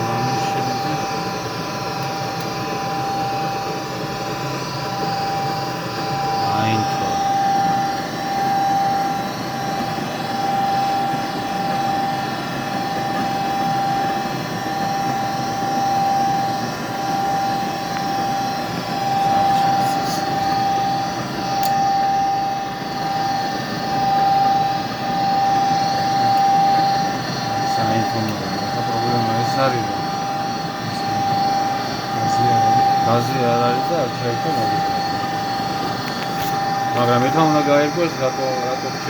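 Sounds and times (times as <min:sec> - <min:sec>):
furnace motor whine: 0:00.0 - 0:39.0.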